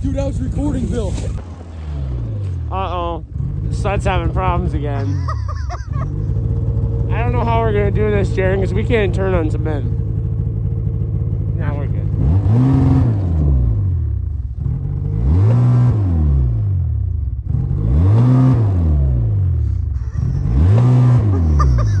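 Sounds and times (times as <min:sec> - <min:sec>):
snowmobile engine revving: 0:00.0 - 0:10.0, 0:11.5 - 0:14.0, 0:14.6 - 0:16.7, 0:17.5 - 0:22.0.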